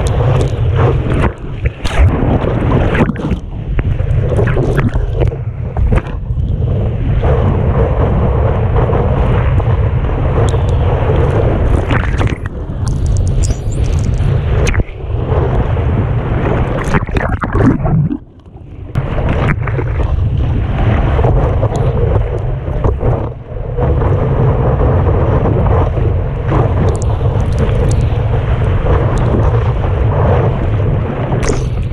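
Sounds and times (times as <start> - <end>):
water rushing and splashing: 0.0 - 31.9
wind buffeting microphone: 0.0 - 31.9.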